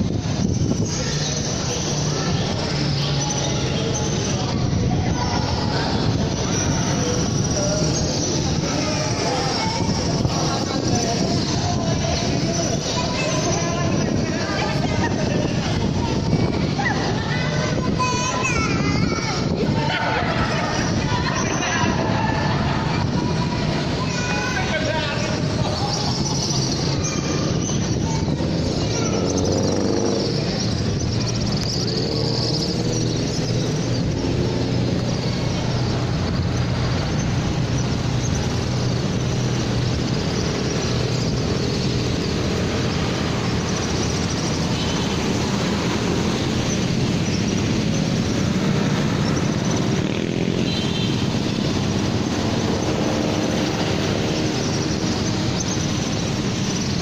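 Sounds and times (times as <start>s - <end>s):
cars going by: 0.0s - 57.0s
motorcycles going by: 0.0s - 57.0s.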